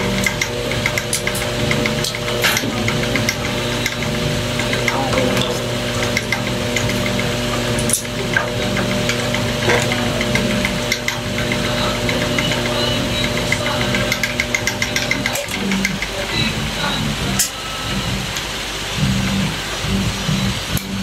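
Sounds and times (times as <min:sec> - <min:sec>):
electric motor hum: 0:00.0 - 0:21.0.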